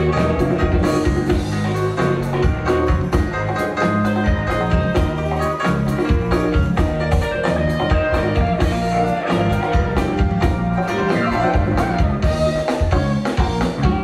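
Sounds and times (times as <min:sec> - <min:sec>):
live funk band: 0:00.0 - 0:14.0.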